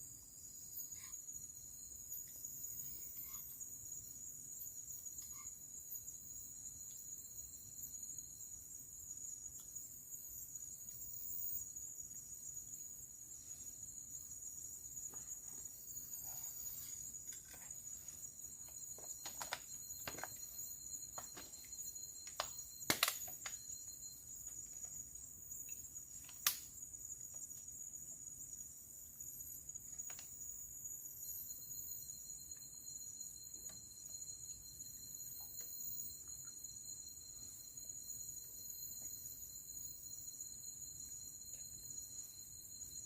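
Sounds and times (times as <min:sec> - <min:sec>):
insects buzzing: 0:00.0 - 0:43.0.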